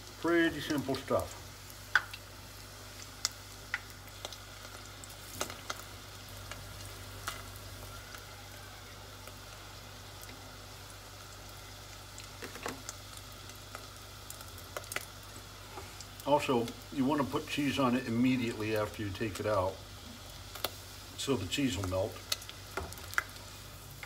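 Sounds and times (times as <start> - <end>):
oil sizzling: 0.0 - 24.0.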